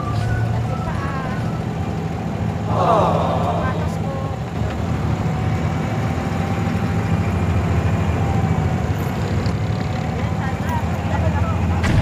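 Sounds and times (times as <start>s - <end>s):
boat engine droning: 1.2s - 12.0s.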